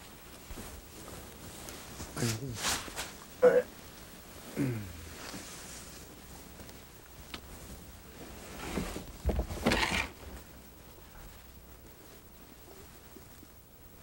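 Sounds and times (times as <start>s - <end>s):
clothing rustling: 0.0s - 13.7s.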